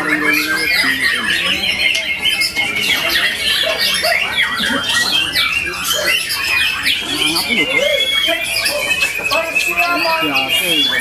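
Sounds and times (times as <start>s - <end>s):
bird singing chirps and trills: 0.0s - 11.0s.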